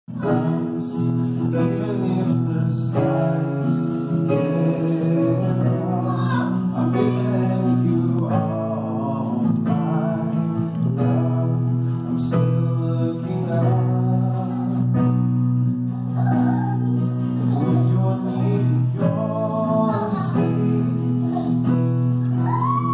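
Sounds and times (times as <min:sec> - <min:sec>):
man singing into a microphone: 0:00.1 - 0:15.2, 0:17.4 - 0:22.9
held keyboard chords: 0:00.1 - 0:22.9
strummed acoustic guitar: 0:00.1 - 0:22.9.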